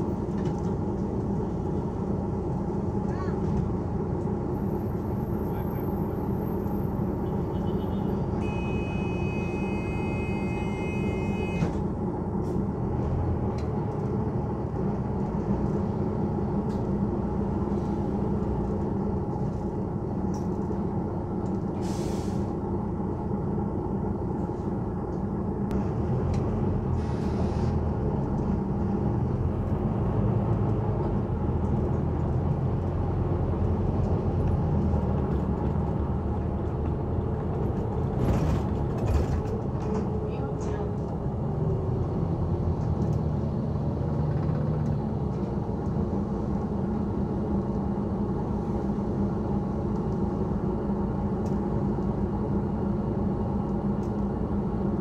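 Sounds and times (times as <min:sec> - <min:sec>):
bus diesel engine: 0:00.0 - 0:55.0
road noise: 0:00.0 - 0:55.0.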